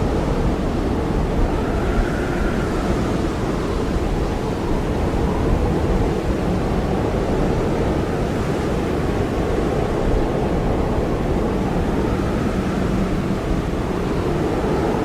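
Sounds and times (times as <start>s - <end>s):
blizzard wind blowing hard: 0.0s - 15.0s.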